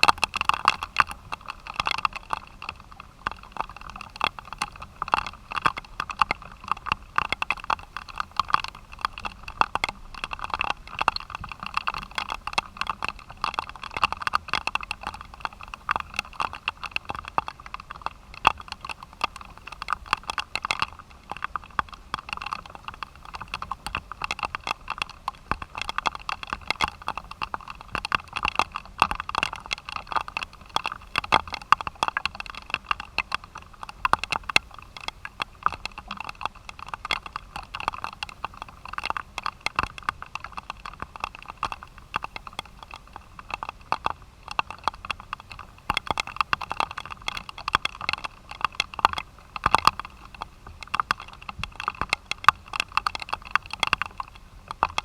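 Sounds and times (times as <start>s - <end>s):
rain drops pattering: 0.0s - 55.0s
steady rain hiss: 0.0s - 55.0s.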